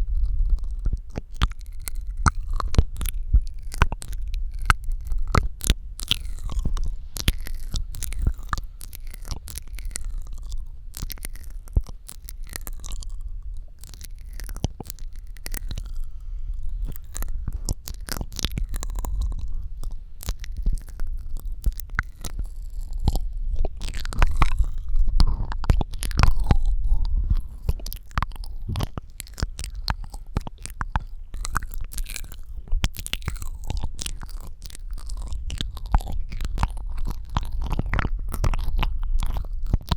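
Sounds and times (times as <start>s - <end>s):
low rumble: 0.0s - 39.9s
wet mouth clicks and smacks: 0.0s - 39.9s.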